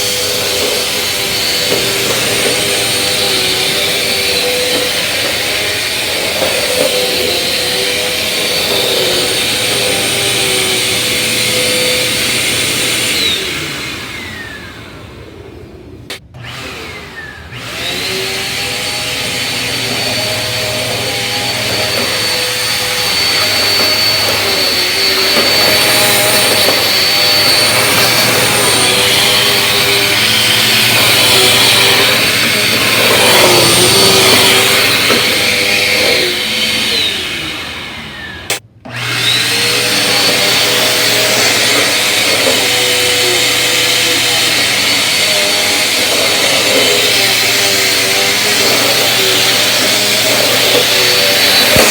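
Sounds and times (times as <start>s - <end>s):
vacuum cleaner motor whine: 0.0s - 51.9s
vacuum motor winding down: 0.0s - 51.9s.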